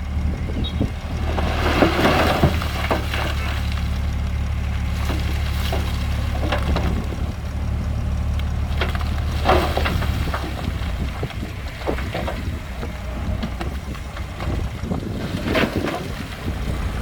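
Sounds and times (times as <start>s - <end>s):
heavy diesel engine rumbling: 0.0s - 17.0s
metal clanks and knocks: 0.4s - 4.0s, 4.8s - 16.3s.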